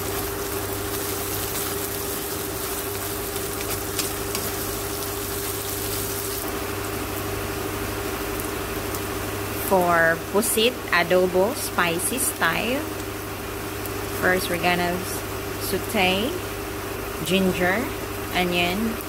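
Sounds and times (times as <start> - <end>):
steady low hum: 0.0 - 19.0
vegetables sizzling in frying pan: 0.0 - 19.0.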